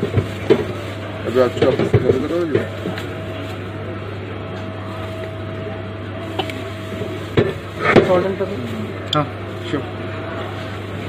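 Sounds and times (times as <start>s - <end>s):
shop equipment hum: 0.0s - 11.0s
thin steady whine: 0.0s - 11.0s.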